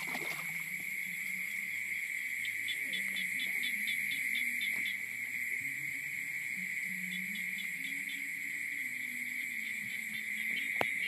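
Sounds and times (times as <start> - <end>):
insect high drone: 0.0 - 11.0.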